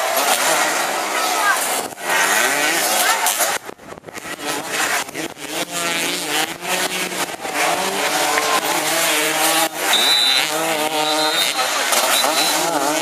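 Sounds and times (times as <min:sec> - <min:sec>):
racing engines revving: 0:00.0 - 0:13.0.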